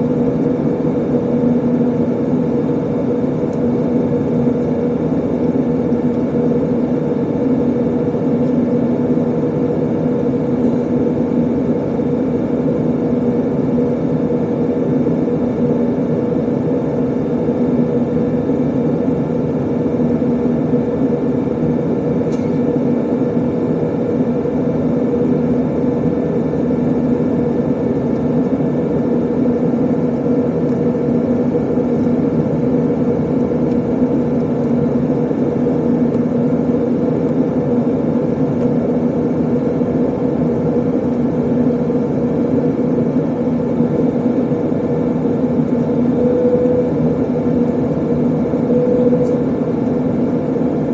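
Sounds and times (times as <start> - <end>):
airliner cabin engine drone: 0.0 - 50.9.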